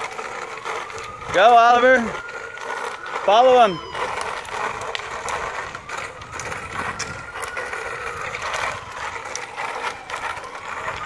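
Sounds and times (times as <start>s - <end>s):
bicycles rolling on concrete: 0.0s - 11.0s.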